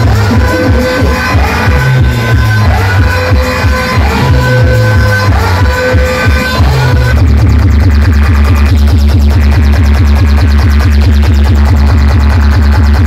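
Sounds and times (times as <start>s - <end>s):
electronic dance music: 0.0s - 13.0s
heavy bass beat: 0.0s - 13.0s.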